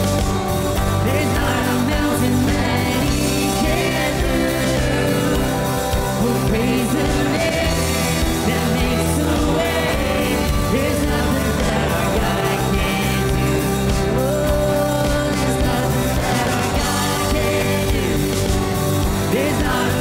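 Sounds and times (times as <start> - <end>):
worship band playing: 0.0 - 20.0
singers leading a chorus: 0.8 - 20.0.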